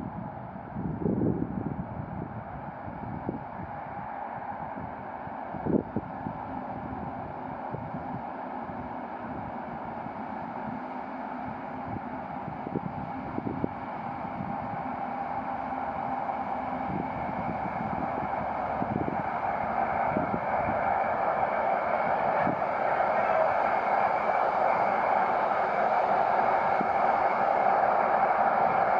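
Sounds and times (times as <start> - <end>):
diesel locomotive running: 0.0 - 28.9
wind noise on microphone: 0.0 - 28.9.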